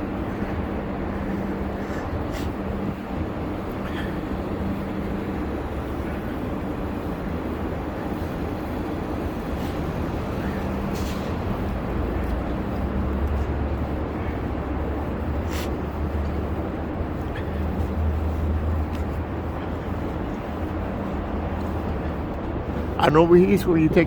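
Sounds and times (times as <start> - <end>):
heavy vehicle engine hum: 0.0 - 24.0
street traffic: 0.0 - 24.0.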